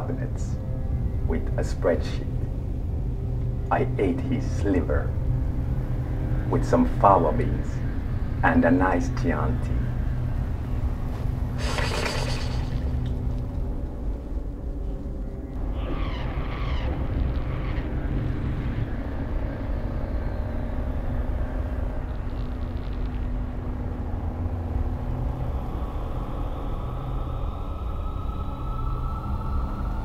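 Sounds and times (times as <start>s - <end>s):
low rumbling drone: 0.0s - 30.0s.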